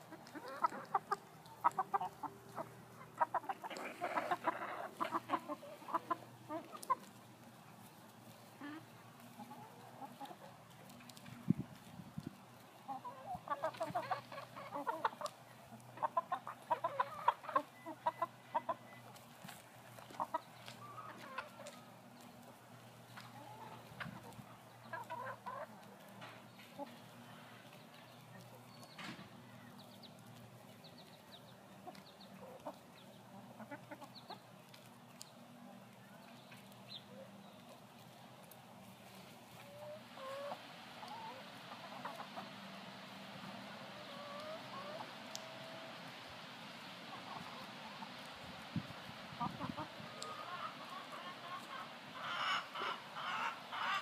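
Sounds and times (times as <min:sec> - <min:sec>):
hens clucking: 0:00.0 - 0:54.0.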